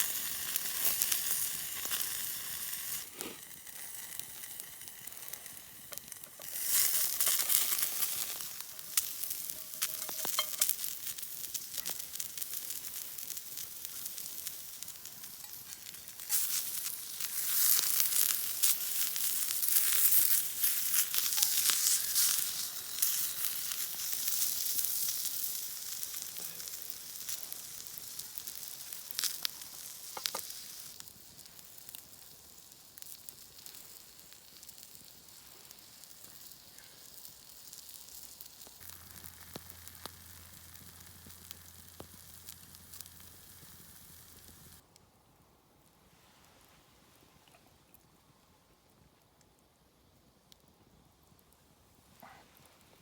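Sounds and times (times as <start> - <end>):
food sizzling: 0.0 - 44.8
small pops of cooking food: 0.0 - 45.0.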